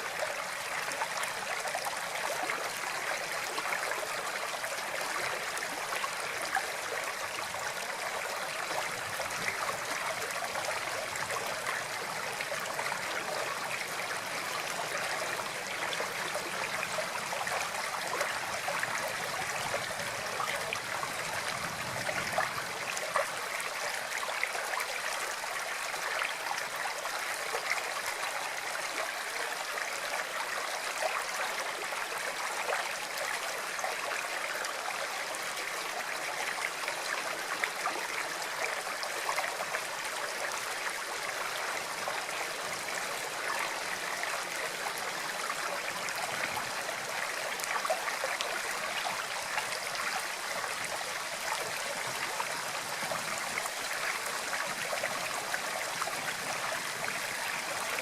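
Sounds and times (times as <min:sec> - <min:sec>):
stream trickling and gurgling: 0:00.0 - 0:58.0.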